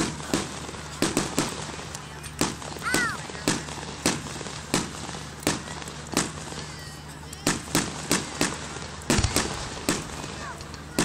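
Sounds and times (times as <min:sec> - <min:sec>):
fireworks bursting with bangs: 0:00.0 - 0:11.0.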